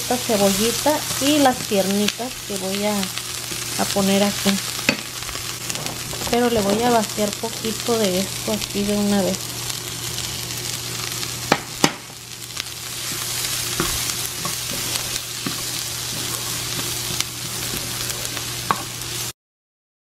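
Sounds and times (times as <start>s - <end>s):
onions sizzling in a pan: 0.0s - 19.4s.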